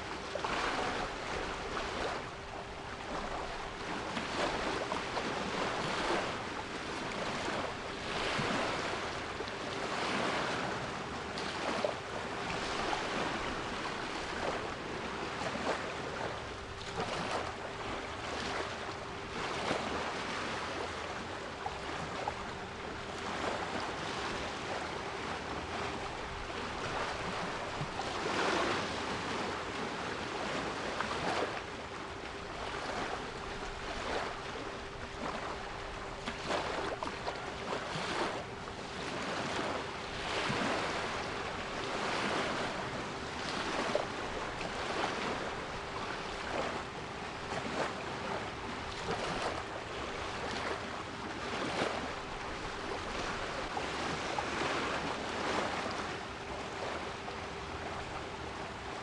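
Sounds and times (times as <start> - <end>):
sea waves washing: 0.0 - 57.1.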